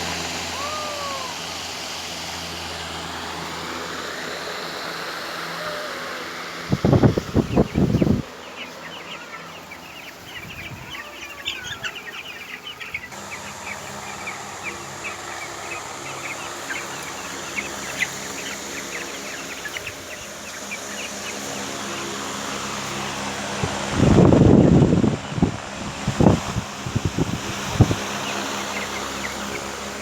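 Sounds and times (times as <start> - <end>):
chickens calling: 0.0 - 30.0.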